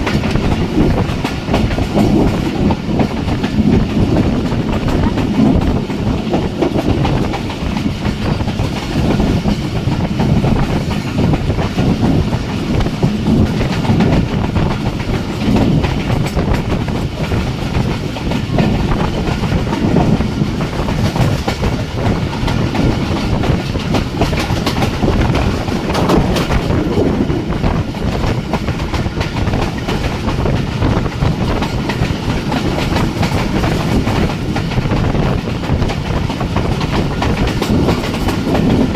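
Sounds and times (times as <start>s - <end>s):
train wheels rumbling on track: 0.0s - 38.9s
wheels clacking over rail joints: 0.0s - 38.9s.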